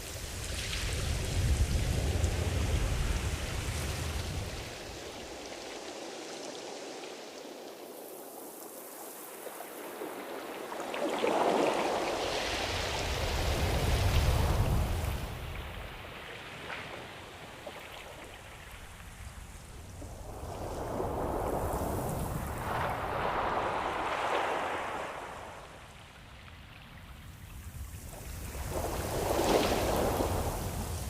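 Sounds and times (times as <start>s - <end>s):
ocean waves washing: 0.0s - 31.0s.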